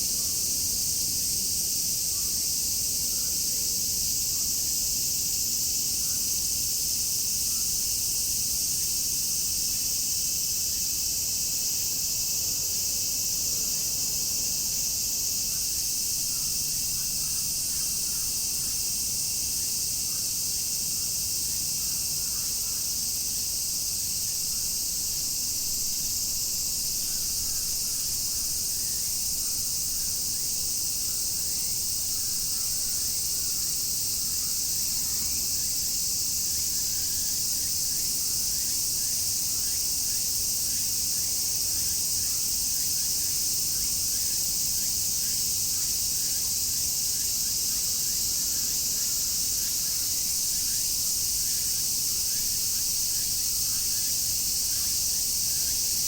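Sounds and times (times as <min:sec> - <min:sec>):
cicadas shrilling: 0:00.0 - 0:56.0.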